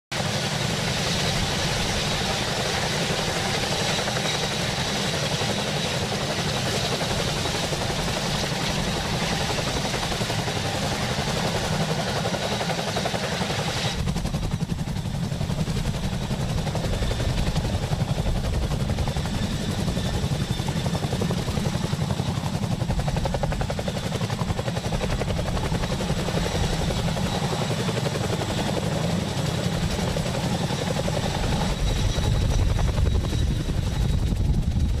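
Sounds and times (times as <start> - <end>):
helicopter rotor beat: 0.1 - 35.0
turbine engine whine: 0.2 - 35.0.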